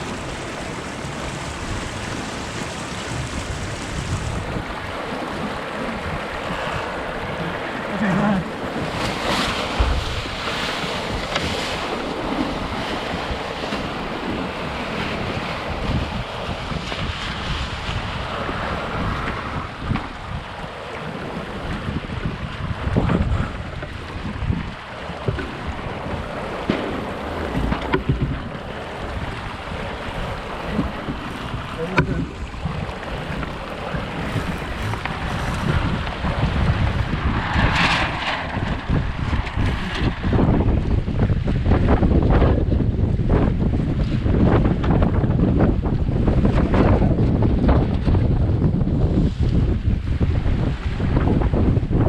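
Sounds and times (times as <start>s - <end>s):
water rushing along hull: 0.0s - 52.0s
wind buffeting microphone: 0.0s - 52.0s.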